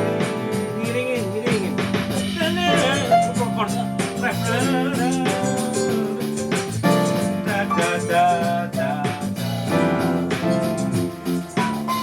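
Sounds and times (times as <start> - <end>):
person singing a melody: 0.0 - 10.6
keyboard accompaniment: 0.0 - 12.0.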